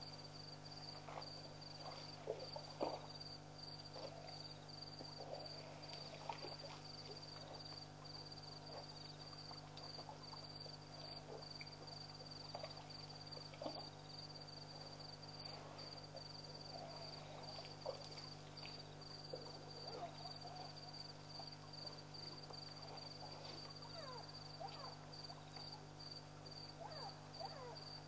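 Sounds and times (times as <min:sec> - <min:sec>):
crickets chirping: 0:00.0 - 0:28.0
steady low hum: 0:00.0 - 0:28.0.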